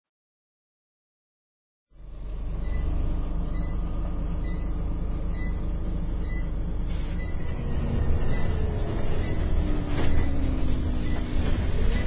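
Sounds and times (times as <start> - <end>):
city street traffic: 2.0 - 12.0.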